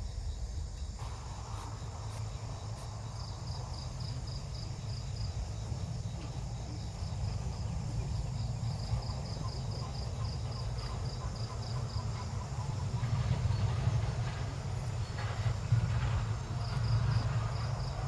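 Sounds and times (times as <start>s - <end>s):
insect chirping: 0.0s - 15.6s
steady low rumble: 0.0s - 18.0s.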